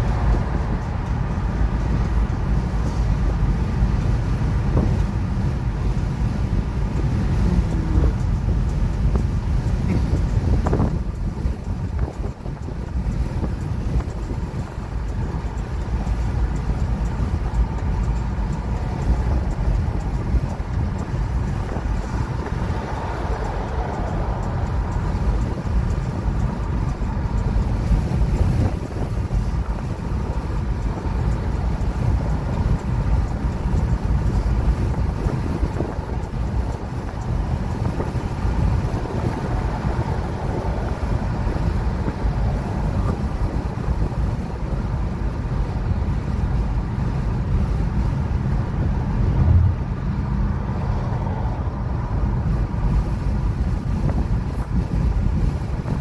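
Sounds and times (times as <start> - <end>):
car tyre and engine rumble: 0.0 - 56.0
wind noise: 0.0 - 56.0.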